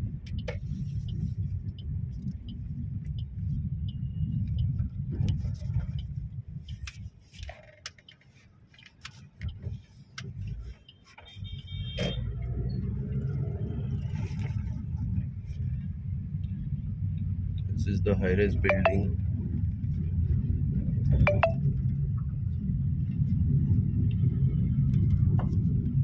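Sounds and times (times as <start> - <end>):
car rumble from inside cabin: 0.0 - 26.0.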